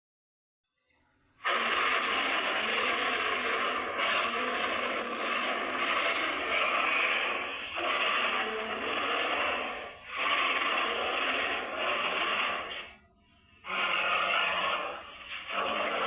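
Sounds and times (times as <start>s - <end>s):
harsh hissing rasp creature: 1.4s - 13.0s, 13.6s - 16.0s.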